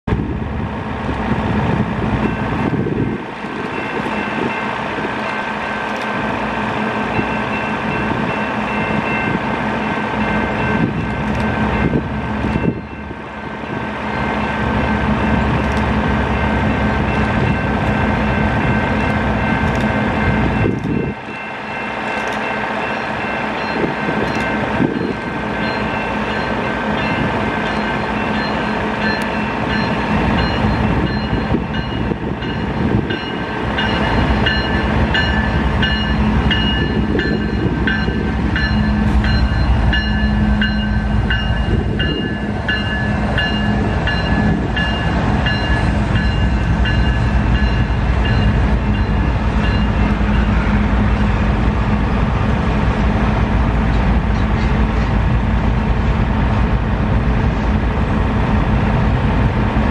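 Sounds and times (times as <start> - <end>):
diesel locomotive engine: 0.0 - 59.9
steady tones: 0.7 - 54.3.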